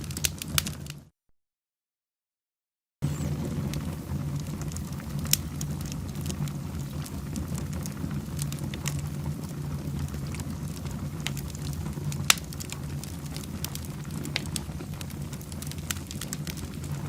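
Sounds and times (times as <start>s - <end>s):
fire popping: 0.0s - 1.1s, 3.0s - 17.0s
wood fire crackling: 0.0s - 1.1s, 3.0s - 17.0s.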